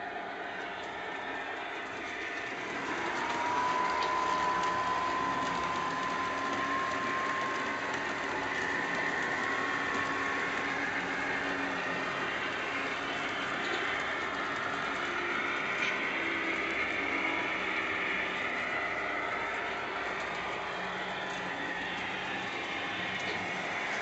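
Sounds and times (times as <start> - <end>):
model train rumbling on track: 0.0 - 24.0
thin mechanical whine: 0.2 - 24.0.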